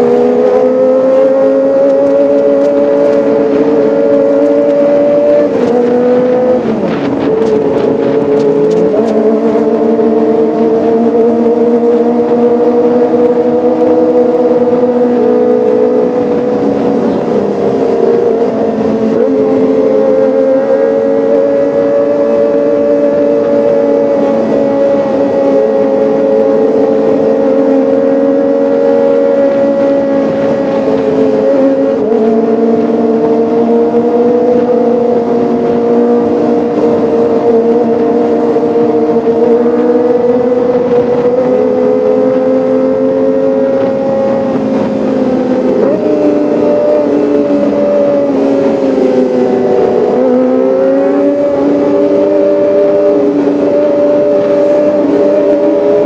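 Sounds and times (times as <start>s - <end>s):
exhaust crackles: 0.0s - 56.0s
motorcycle engine revving high: 0.0s - 56.0s.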